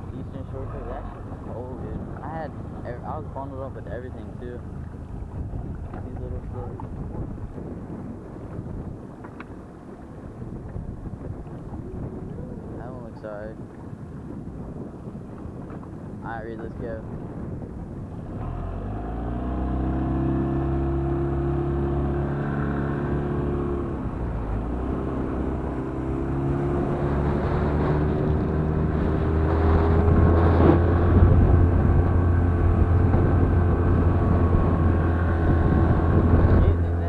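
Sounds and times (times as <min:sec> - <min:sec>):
motorboat engine revving: 0:00.0 - 0:08.9, 0:16.2 - 0:37.0
water rushing along hull: 0:00.0 - 0:37.0.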